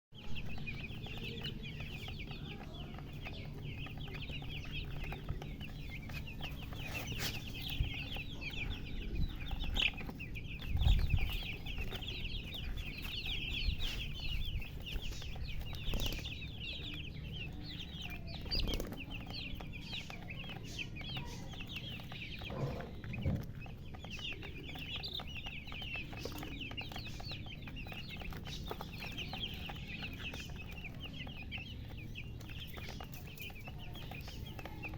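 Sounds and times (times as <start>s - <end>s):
baby chicks peeping: 0.1s - 34.9s
hen clucking: 0.2s - 34.9s.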